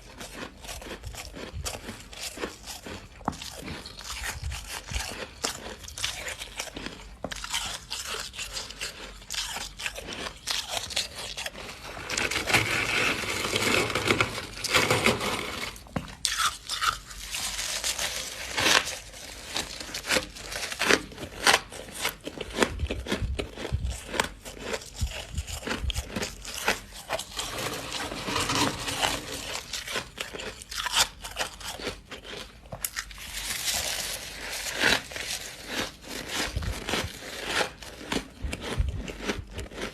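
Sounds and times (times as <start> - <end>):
crunching frost: 0.0 - 39.9.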